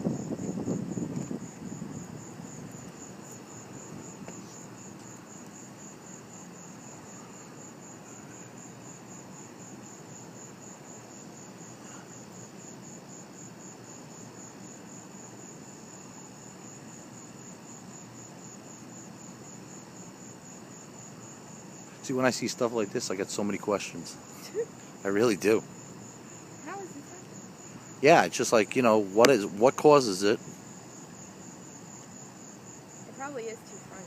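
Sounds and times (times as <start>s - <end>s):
night insects chirping: 0.0s - 34.0s.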